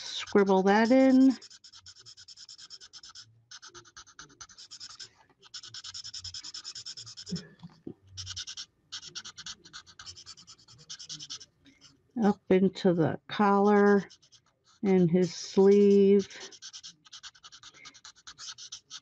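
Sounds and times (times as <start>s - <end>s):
marker scratching on card: 0.0s - 12.4s, 13.4s - 19.0s.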